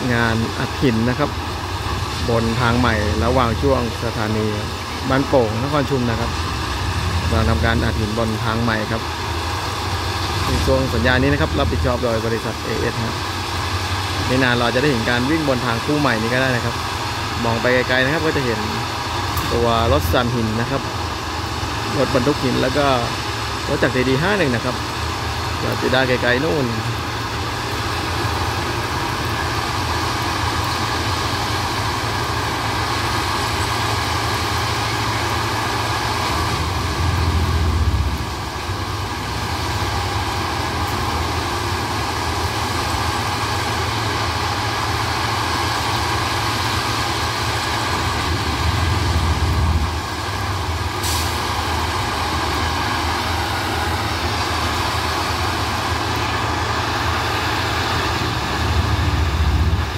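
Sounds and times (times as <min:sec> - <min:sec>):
track tamping machine running: 0:00.0 - 0:59.9.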